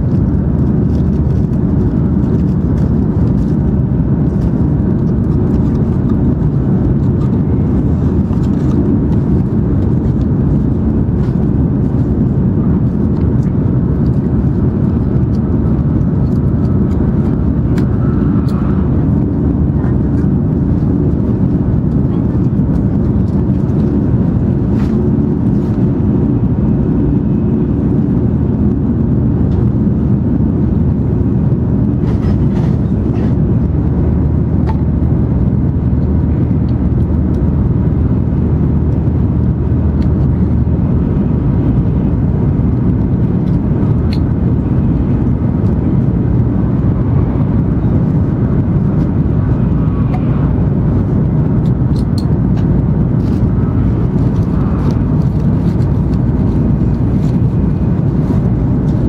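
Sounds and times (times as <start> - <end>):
train cabin rumble and air rush: 0.0 - 59.0.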